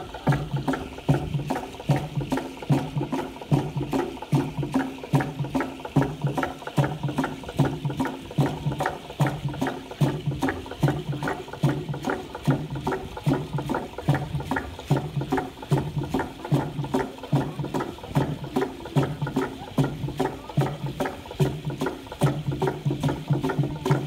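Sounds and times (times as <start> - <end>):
steady low percussion pulse: 0.0 - 24.0.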